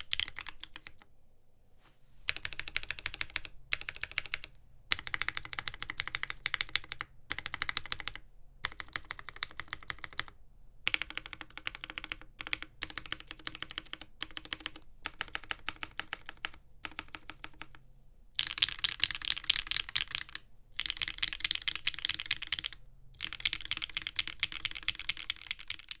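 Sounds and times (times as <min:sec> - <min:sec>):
mechanical keyboard typing: 0:00.0 - 0:01.0, 0:02.3 - 0:17.8, 0:18.4 - 0:26.0.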